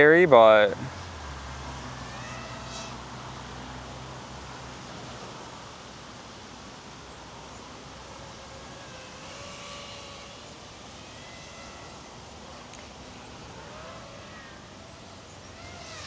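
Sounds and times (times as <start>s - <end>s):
steady outdoor hiss: 0.0s - 16.0s
quadcopter motors whining: 1.7s - 16.0s.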